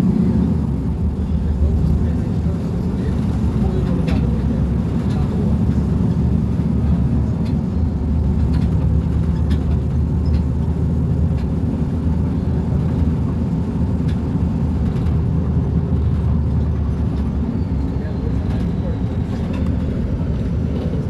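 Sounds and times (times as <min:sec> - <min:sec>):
bus diesel engine running: 0:00.0 - 0:21.0.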